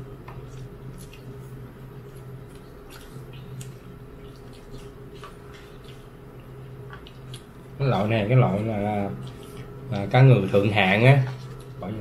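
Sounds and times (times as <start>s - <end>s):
steady low hum: 0.0s - 12.0s
close-up chewing: 0.3s - 7.8s, 8.5s - 11.8s.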